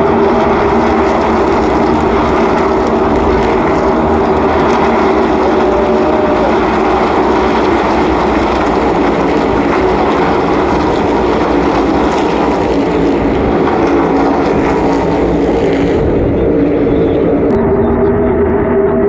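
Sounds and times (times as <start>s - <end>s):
racing car engines droning: 0.0s - 19.0s.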